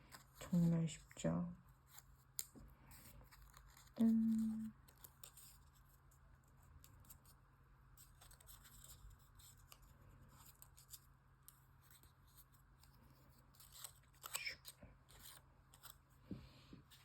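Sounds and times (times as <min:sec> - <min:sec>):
paper rustling: 0:01.8 - 0:07.4, 0:08.0 - 0:16.1.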